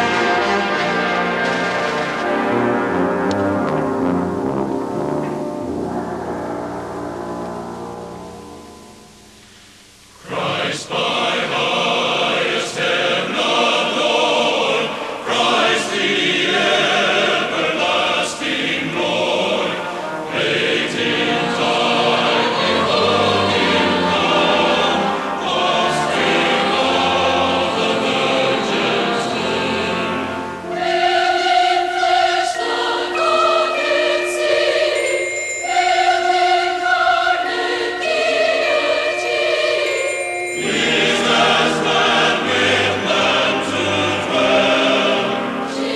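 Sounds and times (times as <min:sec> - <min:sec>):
choir singing: 0:00.0 - 0:09.0, 0:10.2 - 0:45.9
musical accompaniment: 0:00.0 - 0:45.9.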